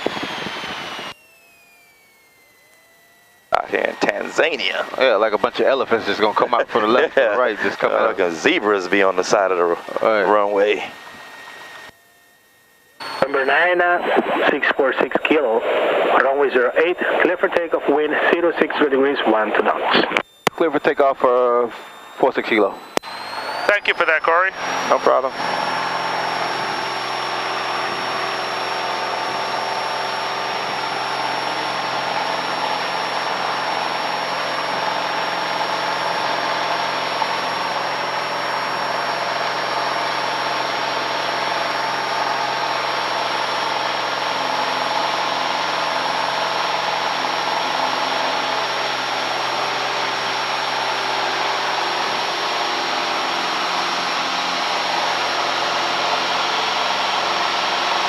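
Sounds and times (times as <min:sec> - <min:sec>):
airplane engine at high power: 0:00.0 - 0:58.0.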